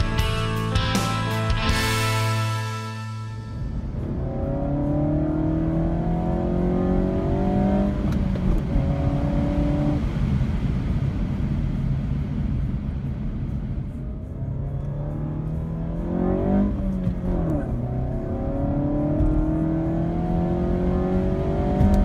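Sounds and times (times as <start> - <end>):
car engine accelerating: 3.6 - 22.0.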